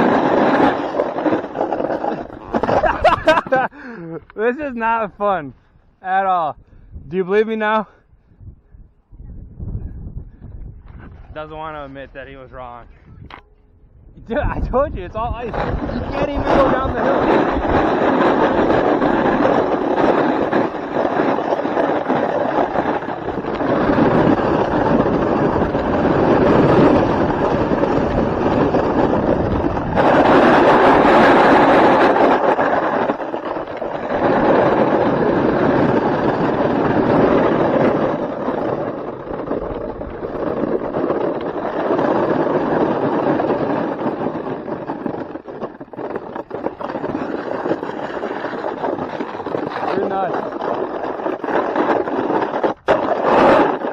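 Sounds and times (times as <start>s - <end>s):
snowboard scraping over icy snow: 0.0s - 5.4s, 14.3s - 53.9s.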